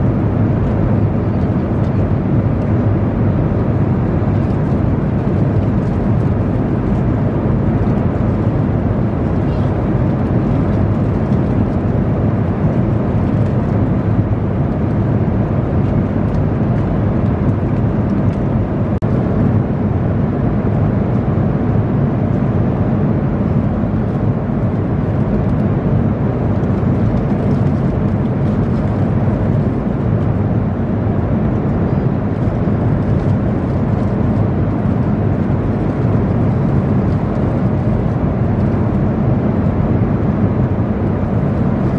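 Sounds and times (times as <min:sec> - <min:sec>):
airliner cabin rumble: 0:00.0 - 0:41.9.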